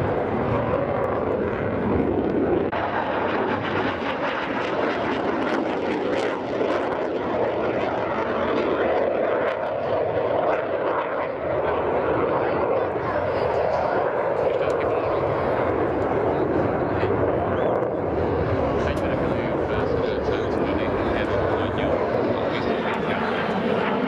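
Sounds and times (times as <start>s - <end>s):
fighter jet roaring past: 0.0s - 24.0s.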